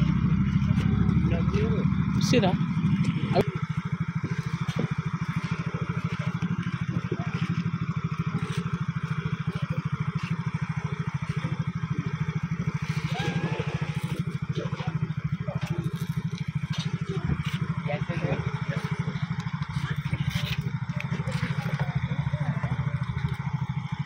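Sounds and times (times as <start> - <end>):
generator engine chugging: 0.0 - 24.0.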